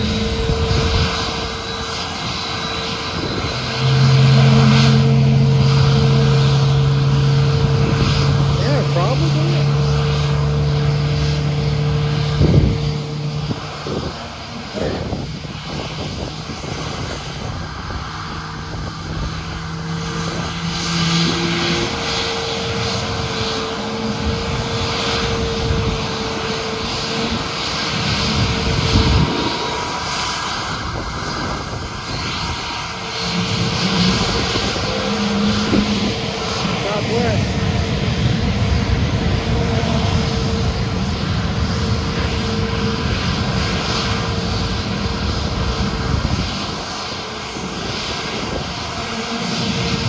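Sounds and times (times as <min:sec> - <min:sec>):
airplane engines droning: 0:00.0 - 0:50.0.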